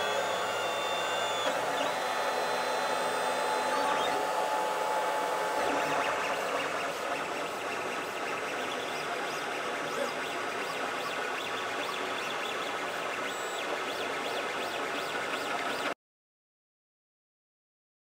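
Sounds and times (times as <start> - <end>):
stepper motor whines: 0.0 - 15.9.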